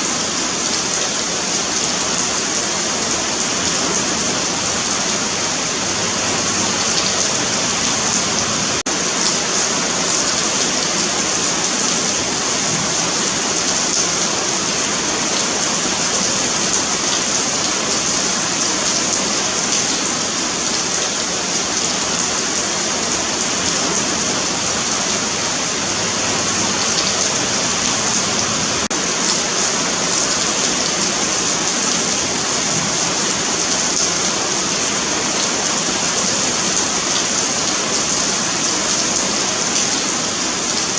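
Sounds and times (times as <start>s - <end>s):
rain on pavement: 0.0s - 40.9s.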